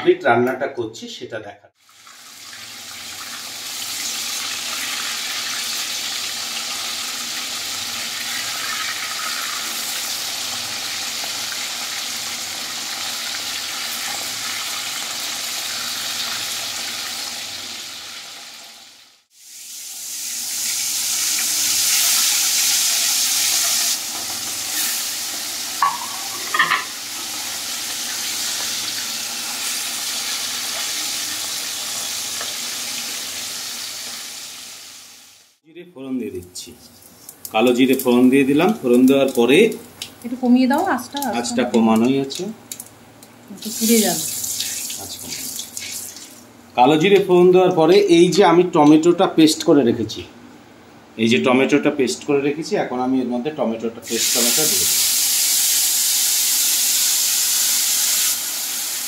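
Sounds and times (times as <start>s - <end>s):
fish sizzling in hot oil: 1.8s - 35.6s, 37.1s - 46.5s, 54.1s - 59.0s.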